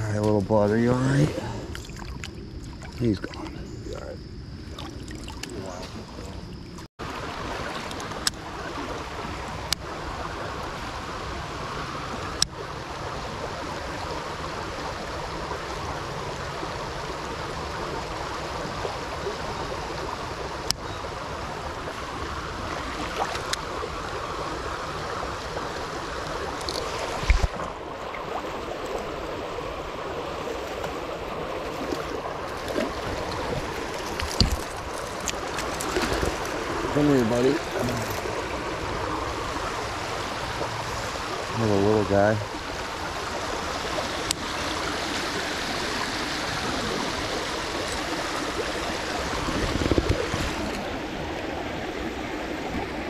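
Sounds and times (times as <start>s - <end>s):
creek water flowing over stones: 7.0s - 53.0s.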